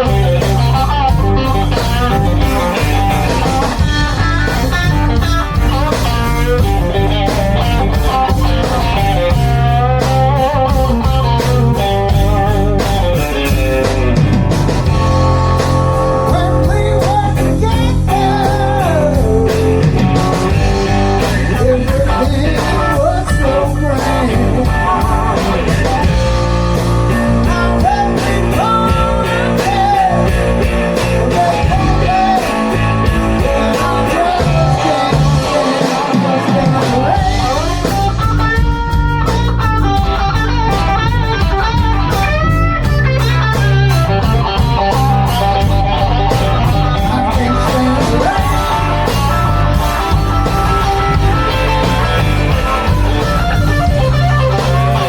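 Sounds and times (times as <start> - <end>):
blues band playing: 0.0 - 55.0
lead guitar bending notes: 0.0 - 55.0.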